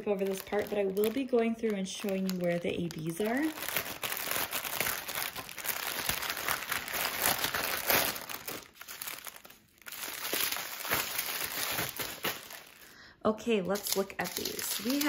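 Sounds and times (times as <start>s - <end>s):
plastic packaging crinkling: 0.0s - 13.0s, 13.6s - 15.0s.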